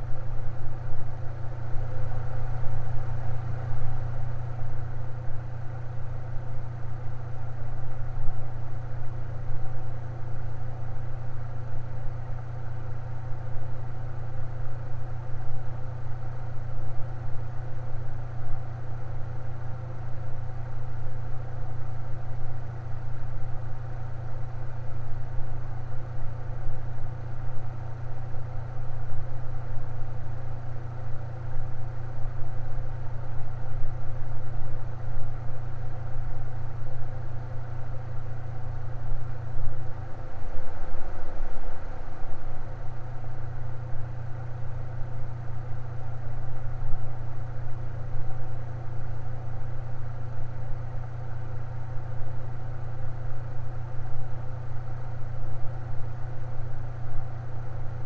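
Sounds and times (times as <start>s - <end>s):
electric fan humming and whirring: 0.0s - 58.0s.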